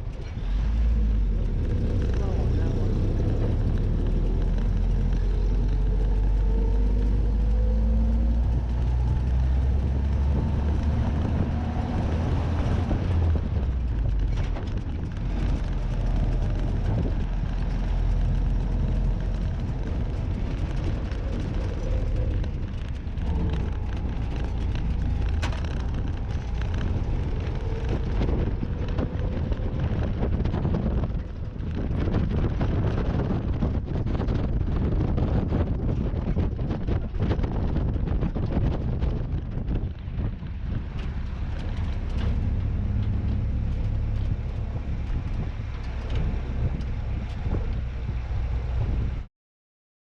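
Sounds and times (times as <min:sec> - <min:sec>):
car engine rumbling: 0:00.0 - 0:49.3
knocks and rattles: 0:01.4 - 0:48.2.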